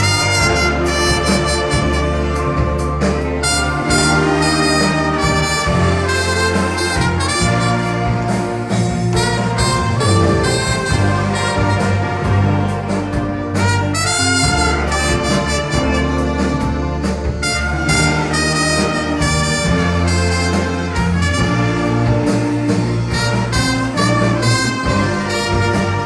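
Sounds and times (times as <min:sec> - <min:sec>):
brass and wind orchestra playing: 0:00.0 - 0:26.0.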